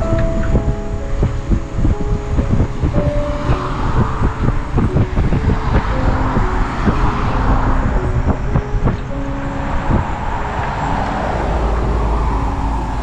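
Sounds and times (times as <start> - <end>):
classical music playing softly: 0.0 - 13.0
wind buffeting microphone: 0.0 - 13.0.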